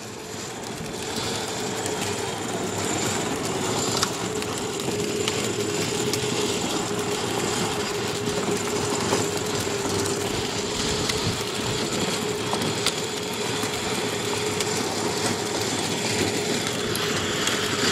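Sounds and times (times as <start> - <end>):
machine running with hum: 0.0 - 17.9.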